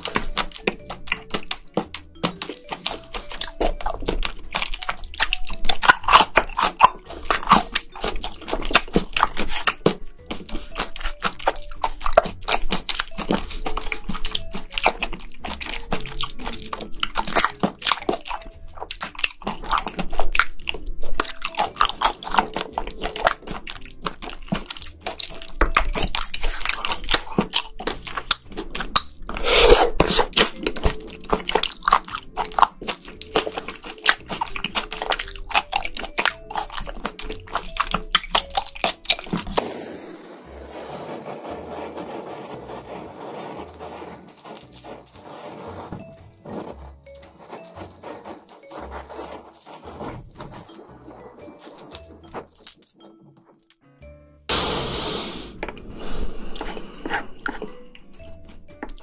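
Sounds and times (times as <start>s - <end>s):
wet chewing and biting: 0.0s - 39.6s, 47.0s - 53.8s, 55.6s - 59.0s.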